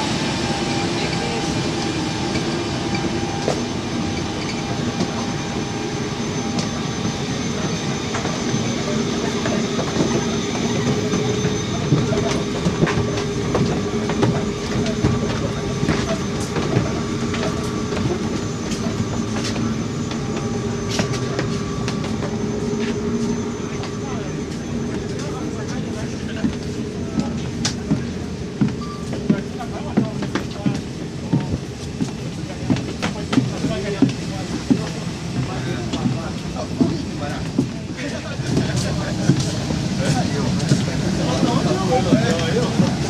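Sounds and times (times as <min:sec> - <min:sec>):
aircraft cabin hum: 0:00.0 - 0:43.0.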